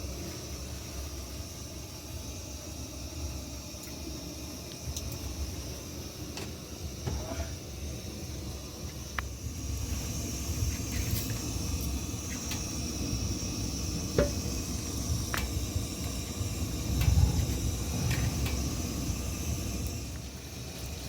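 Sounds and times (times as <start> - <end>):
low rumbling noise: 2.9 - 21.0.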